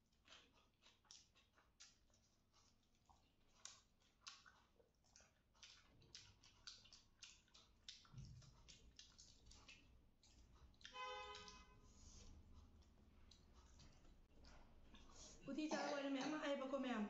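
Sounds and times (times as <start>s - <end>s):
chewing and lip smacks: 0.0s - 15.4s.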